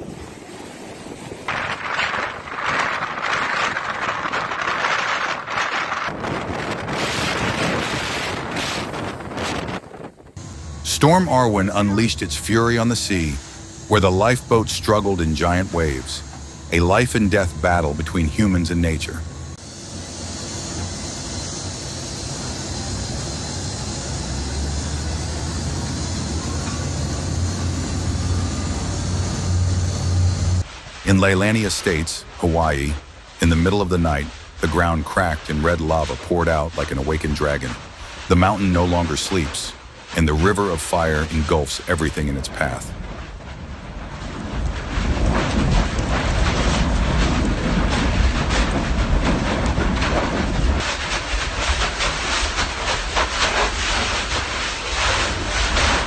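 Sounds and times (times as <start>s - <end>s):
heavy sea rumbling: 0.0s - 56.0s
storm wind over microphone: 0.0s - 56.0s.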